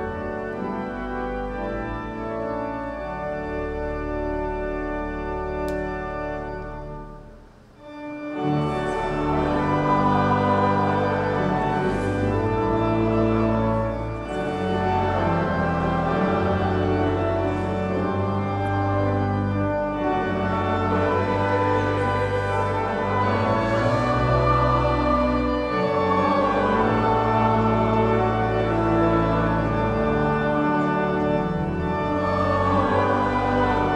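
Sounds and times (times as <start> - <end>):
pipe organ chords: 0.0 - 33.9.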